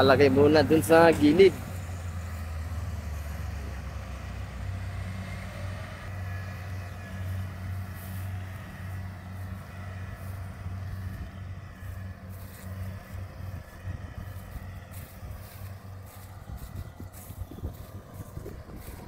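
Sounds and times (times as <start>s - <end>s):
combine harvester engine humming: 0.0s - 19.0s.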